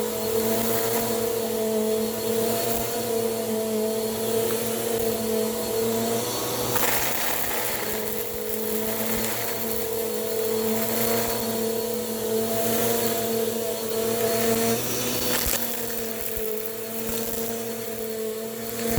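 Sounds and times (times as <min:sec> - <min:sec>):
vacuum cleaner motor whine: 0:00.0 - 0:18.9.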